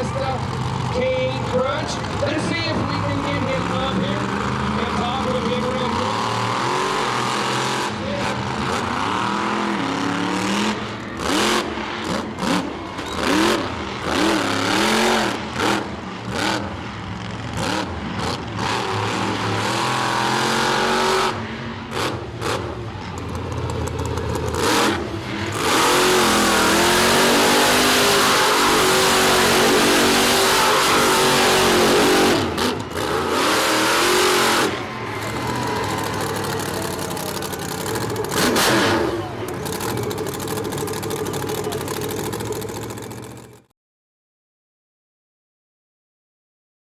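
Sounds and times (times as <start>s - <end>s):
monster truck engine revving: 0.0s - 43.7s.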